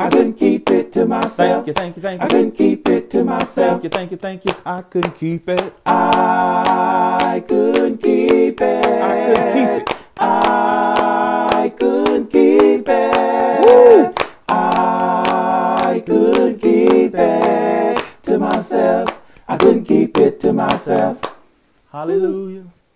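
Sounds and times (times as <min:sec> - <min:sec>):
man singing a cappella harmony: 0:00.0 - 0:21.2
hand claps: 0:00.1 - 0:21.4.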